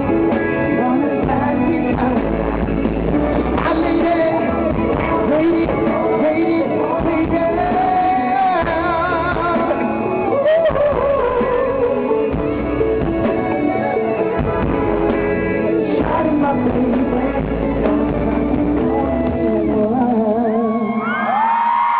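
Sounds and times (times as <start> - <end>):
live pop music with singing: 0.0 - 21.9.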